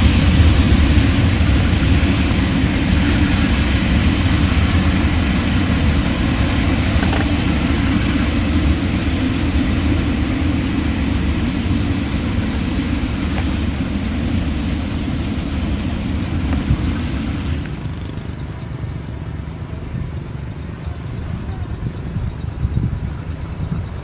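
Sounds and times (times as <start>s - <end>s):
train rumbling by: 0.0s - 24.0s.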